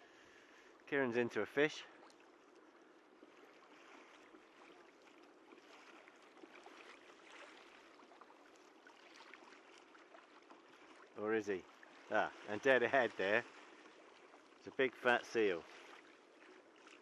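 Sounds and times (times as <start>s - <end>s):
water lapping against kayak hull: 0.0s - 17.0s
small ticks and splashes: 1.8s - 17.0s.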